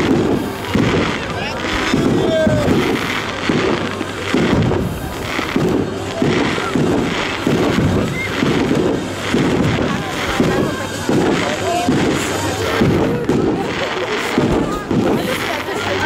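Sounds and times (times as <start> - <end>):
fireworks booming: 0.0 - 16.0.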